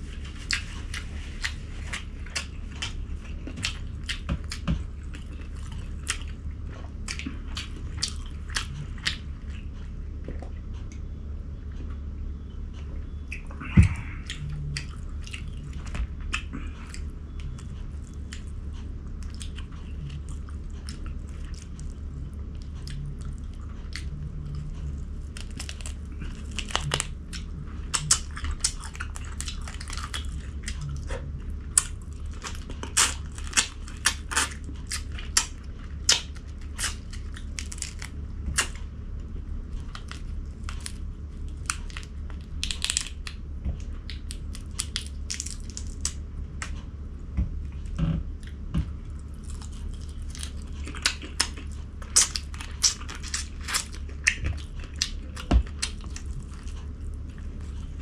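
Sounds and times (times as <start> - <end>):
chewing and crunching food: 0.0 - 58.0
steady low hum: 0.0 - 58.0.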